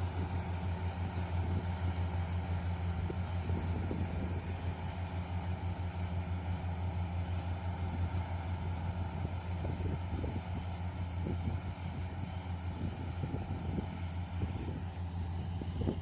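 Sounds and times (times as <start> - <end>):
combine harvester diesel engine: 0.0 - 16.0.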